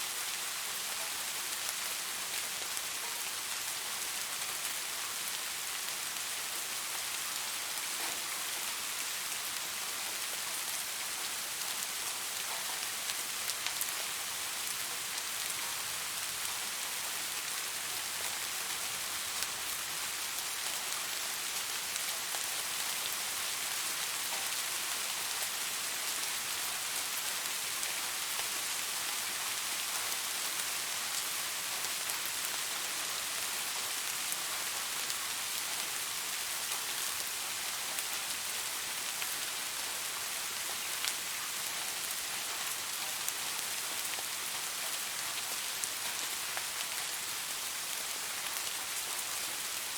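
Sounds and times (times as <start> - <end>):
rain falling on leaves: 0.0 - 49.9.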